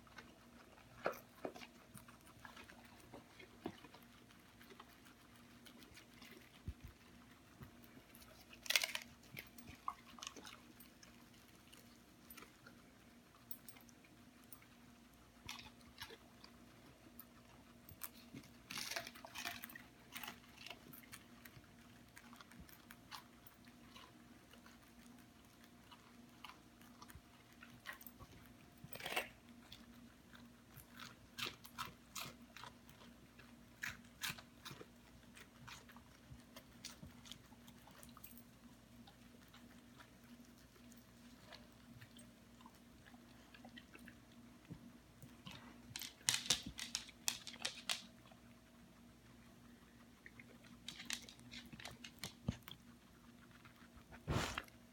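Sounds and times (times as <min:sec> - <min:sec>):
animals crunching lettuce: 0:00.0 - 0:54.9.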